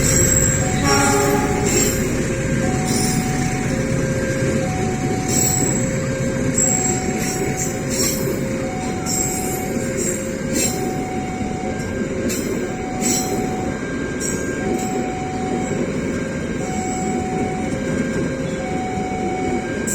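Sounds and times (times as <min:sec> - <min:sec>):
sharp clacks of train wheels: 0:00.0 - 0:19.9
train rumbling over crossing: 0:00.0 - 0:19.9
two-tone crossing alarm chime: 0:00.0 - 0:19.9.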